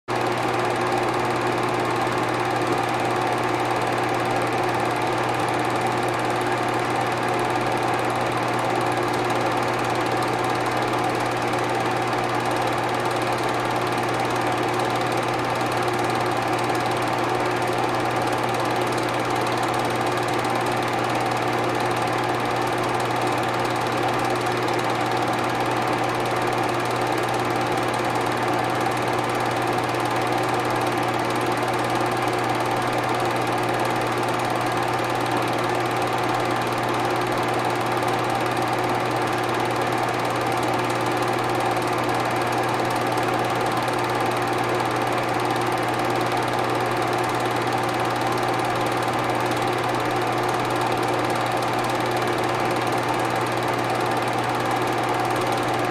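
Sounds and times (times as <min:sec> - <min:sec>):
film projector whirring: 0:00.1 - 0:55.9.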